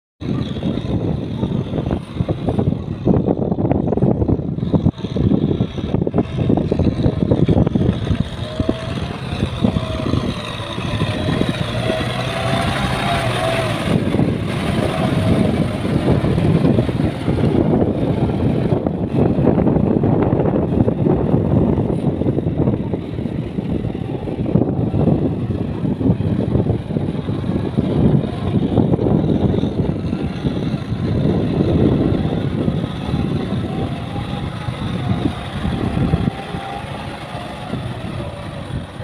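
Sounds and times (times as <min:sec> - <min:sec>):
tractor diesel engine under load: 0:00.2 - 0:39.0.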